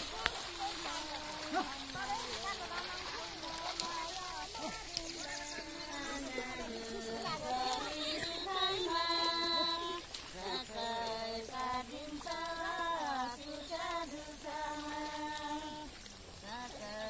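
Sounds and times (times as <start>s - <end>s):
woman singing folk melody: 0.0s - 17.0s.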